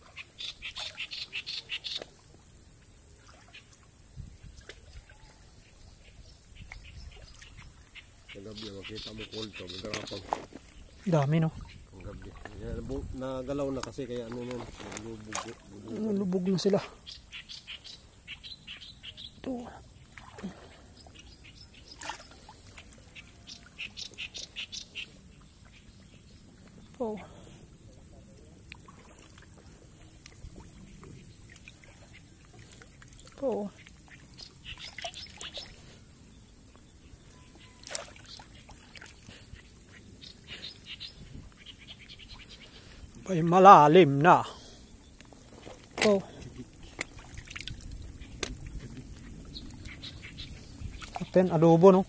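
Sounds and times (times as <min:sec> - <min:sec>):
water splashing and trickling: 0:00.0 - 0:52.0.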